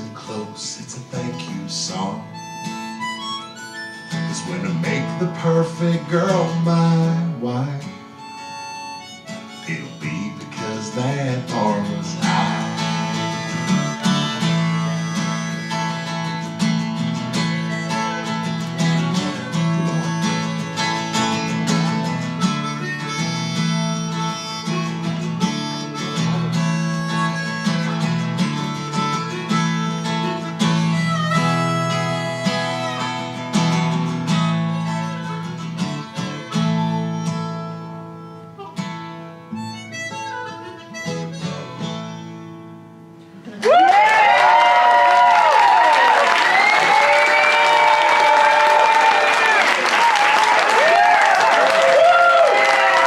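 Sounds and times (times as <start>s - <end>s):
harmonica: 0.0s - 43.4s
strummed acoustic guitar: 0.0s - 43.6s.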